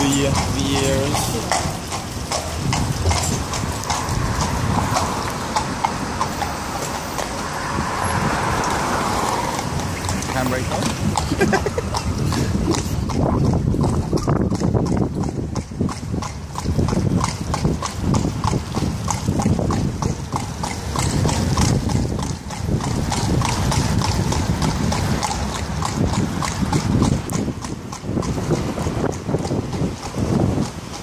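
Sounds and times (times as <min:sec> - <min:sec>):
carriage rumbling: 0:00.0 - 0:30.8
horse hooves clip-clopping: 0:00.0 - 0:31.0.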